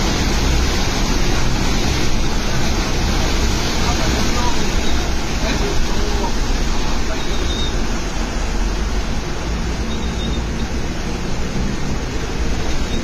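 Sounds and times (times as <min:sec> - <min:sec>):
low engine rumble: 0:00.0 - 0:13.0
water rushing and churning: 0:00.0 - 0:13.0.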